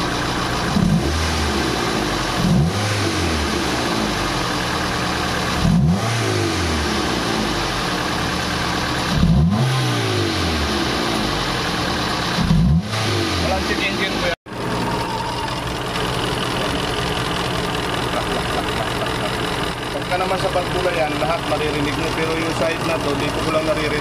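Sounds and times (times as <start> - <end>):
car engine revving: 0.0 - 15.0, 15.6 - 24.0.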